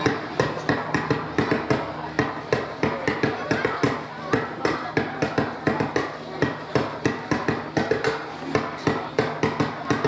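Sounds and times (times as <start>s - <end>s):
rapid sharp percussion strikes: 0.0s - 10.0s.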